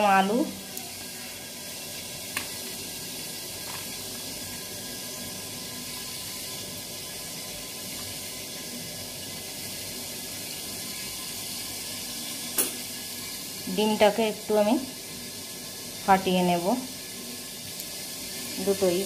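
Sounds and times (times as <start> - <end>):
chicken frying in oil: 0.0 - 19.0.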